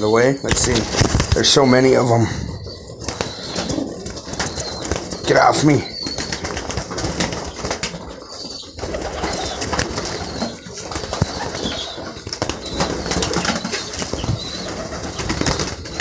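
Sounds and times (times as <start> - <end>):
pigeons flapping wings: 0.5 - 1.6, 2.9 - 16.0
pigeons scuffling: 0.5 - 2.1, 2.8 - 16.0.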